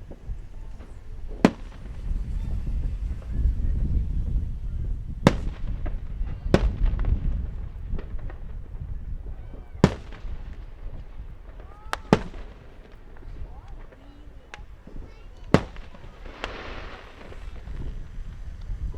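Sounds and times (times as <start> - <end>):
firework crackles: 0.0 - 18.9
firework shells bursting: 0.0 - 18.9.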